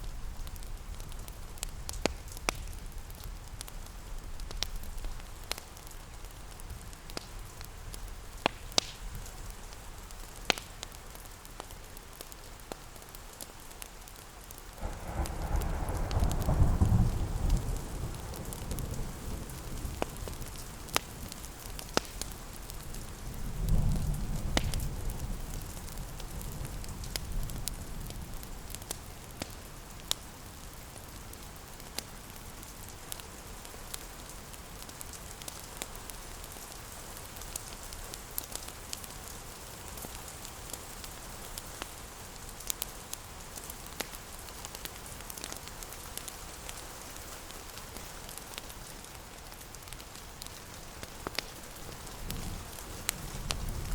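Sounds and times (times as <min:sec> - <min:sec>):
fireplace crackling and popping: 0:00.0 - 0:53.9
steady rain: 0:00.0 - 0:53.9.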